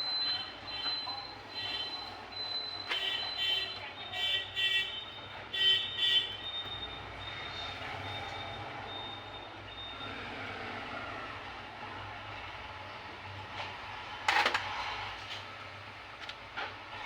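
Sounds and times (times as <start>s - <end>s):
background traffic noise: 0.0s - 17.0s.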